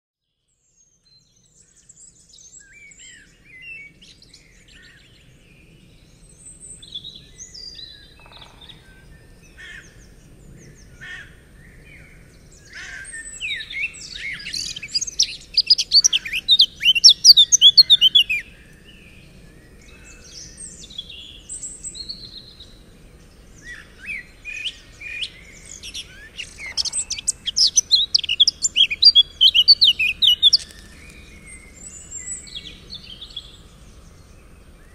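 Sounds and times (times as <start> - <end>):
rapid bird song: 0.3 - 34.9
songbirds chirping: 0.4 - 34.9.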